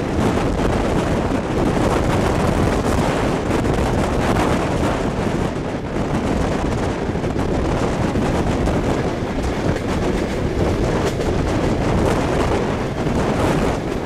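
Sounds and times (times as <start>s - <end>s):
train carriages rumbling: 0.0s - 14.0s
wind rushing over microphone: 0.0s - 14.0s.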